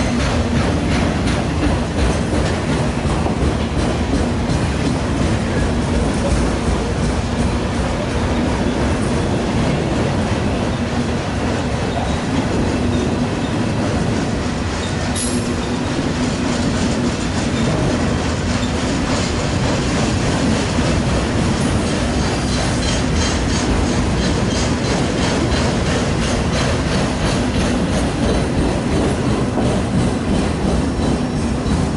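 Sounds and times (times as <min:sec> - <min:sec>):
freight train rumbling past: 0:00.0 - 0:31.9
wheels clacking over rail joints: 0:00.0 - 0:31.9.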